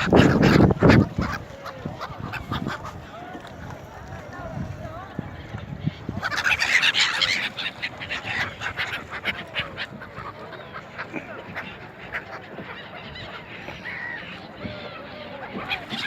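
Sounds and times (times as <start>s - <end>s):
gulls squawking: 0.0s - 16.0s.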